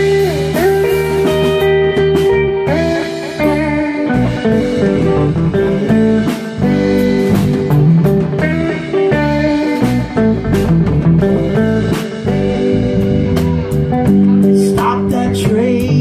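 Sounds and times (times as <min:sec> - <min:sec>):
bass guitar: 0:00.0 - 0:16.0
drum kit with cymbal hits: 0:00.0 - 0:16.0
electric guitar: 0:00.0 - 0:16.0.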